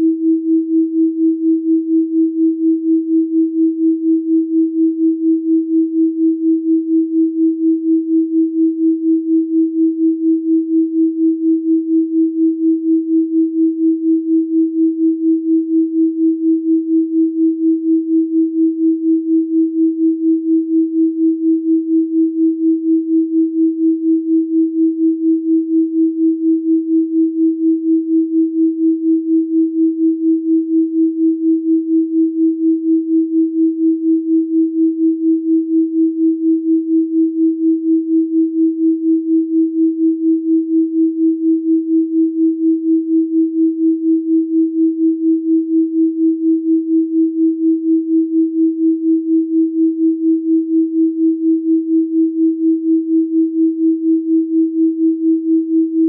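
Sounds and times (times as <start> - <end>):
pulsing electronic pure tone: 0.0 - 56.0.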